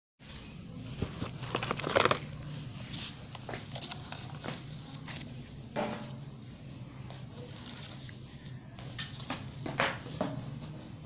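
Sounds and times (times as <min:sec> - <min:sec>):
plastic and paper rustling: 0:00.2 - 0:09.5.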